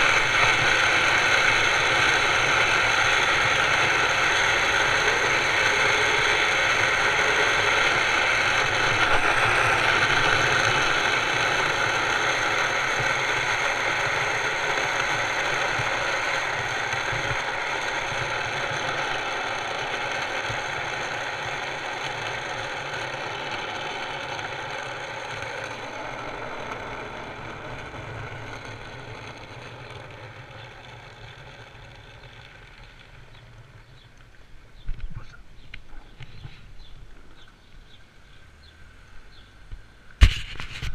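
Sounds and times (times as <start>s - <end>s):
cart wheels rolling on asphalt: 0.0s - 35.0s.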